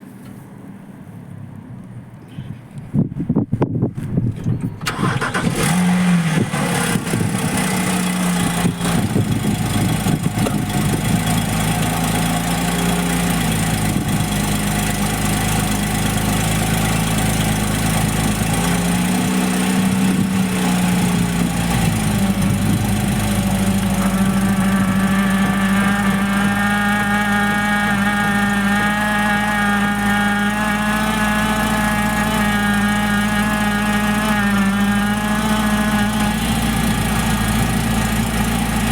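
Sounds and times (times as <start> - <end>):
car engine starting and idling: 3.9 - 38.9.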